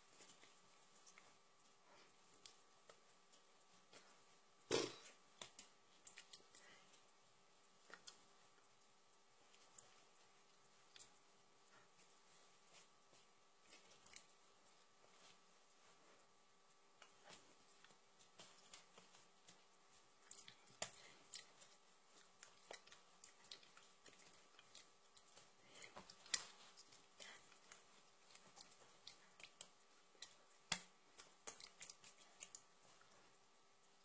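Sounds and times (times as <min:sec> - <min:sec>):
faint steady hum: 0:00.0 - 0:34.0
hands and clothing rustles: 0:00.0 - 0:34.0.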